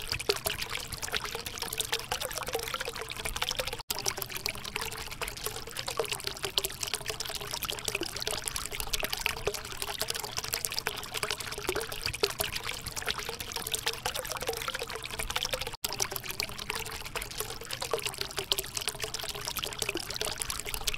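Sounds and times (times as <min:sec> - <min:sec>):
fountain water trickling and splashing: 0:00.0 - 0:20.9.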